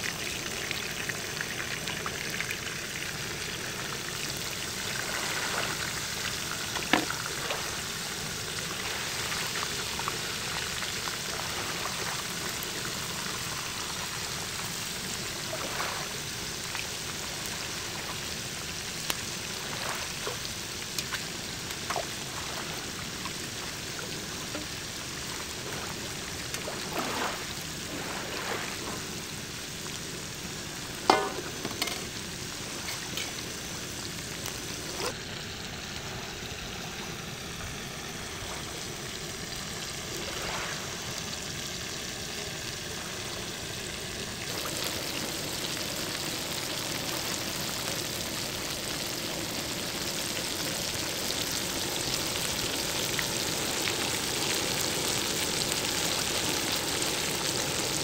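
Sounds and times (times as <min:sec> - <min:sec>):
fish sizzling in hot oil: 0:00.0 - 0:58.0.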